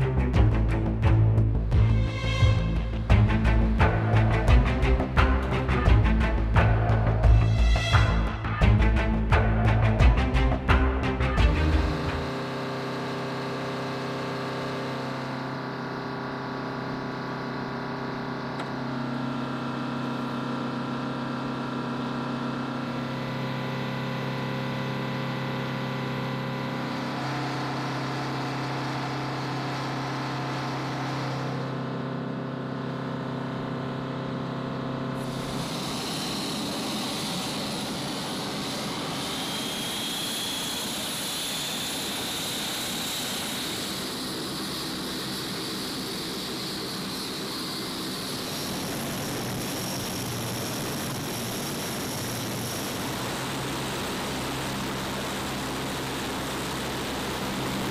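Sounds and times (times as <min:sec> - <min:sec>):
turboprop engines droning: 0:00.0 - 0:57.9.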